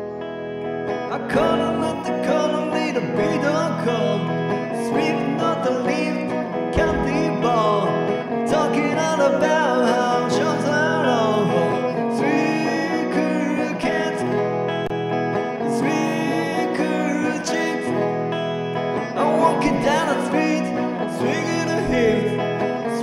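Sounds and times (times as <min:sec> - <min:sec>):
electric guitar picking: 0:00.0 - 0:23.0.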